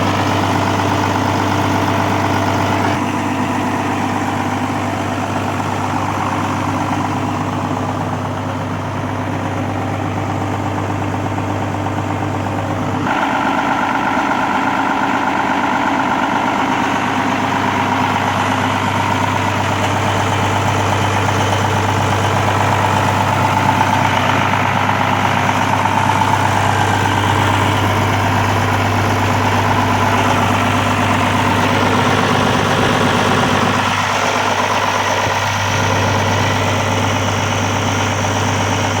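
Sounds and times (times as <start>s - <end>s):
tractor diesel engine idling: 0.0s - 39.0s.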